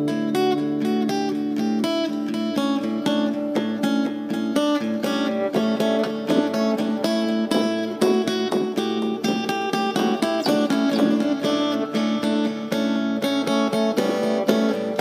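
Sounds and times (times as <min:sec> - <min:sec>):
fingerpicked acoustic guitar with delay: 0:00.0 - 0:15.0.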